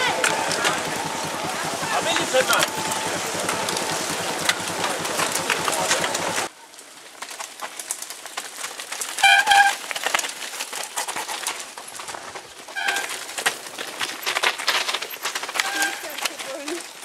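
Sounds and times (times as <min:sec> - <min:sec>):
bikes rattling over stones: 0:00.0 - 0:17.0.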